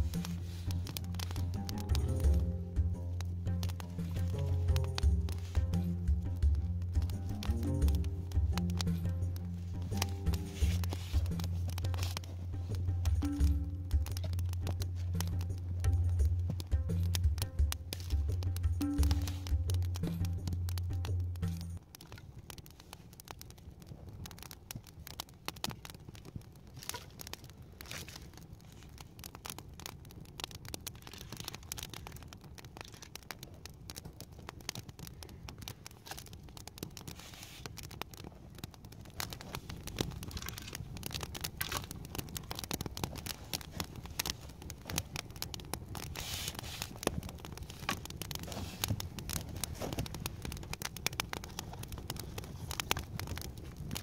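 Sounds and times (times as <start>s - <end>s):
campfire crackling and popping: 0.0s - 54.0s
low fire rumble: 0.0s - 54.0s.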